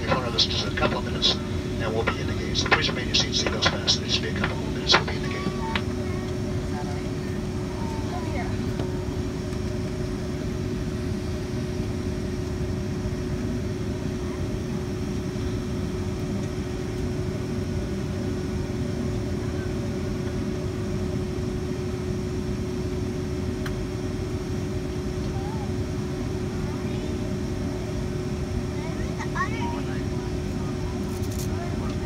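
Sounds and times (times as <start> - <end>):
airplane cabin engine rumble: 0.0 - 32.0.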